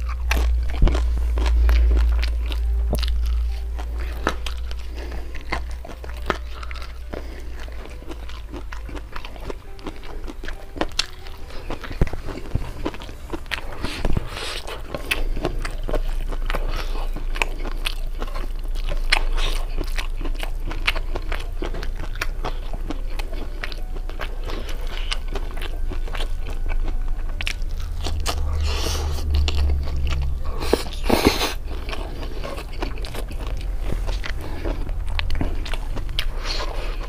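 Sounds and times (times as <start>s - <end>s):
chewing and crunching food: 0.0s - 37.0s.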